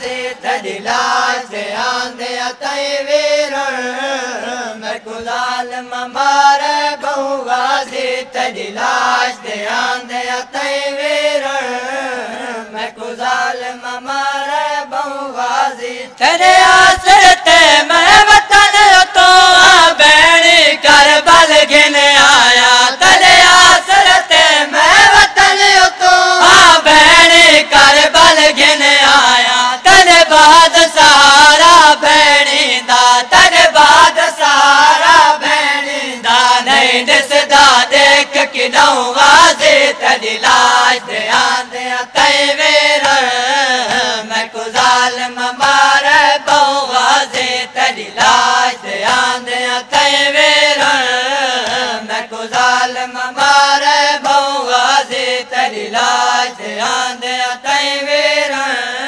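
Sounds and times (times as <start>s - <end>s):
men chanting in unison: 0.0s - 59.0s.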